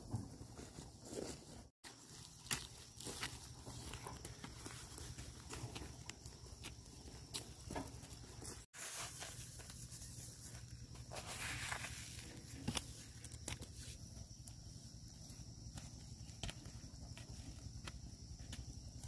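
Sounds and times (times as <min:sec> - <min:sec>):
footsteps crunching: 0:00.0 - 0:19.0.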